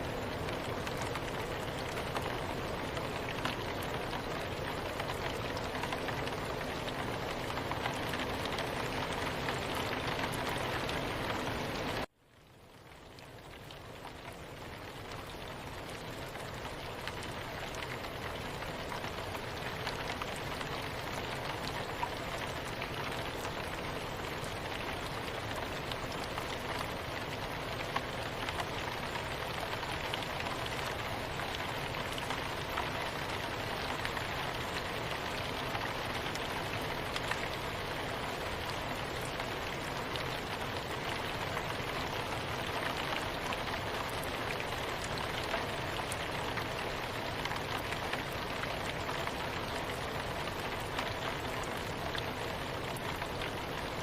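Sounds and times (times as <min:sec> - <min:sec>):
soft rain hissing: 0:00.0 - 0:54.0.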